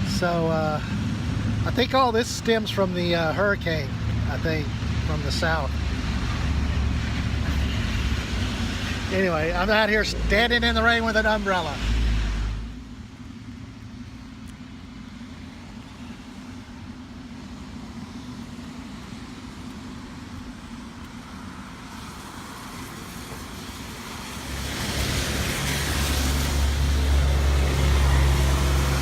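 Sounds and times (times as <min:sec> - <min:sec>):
traffic on wet road: 0:00.0 - 0:29.0
vehicle passing: 0:03.0 - 0:29.0.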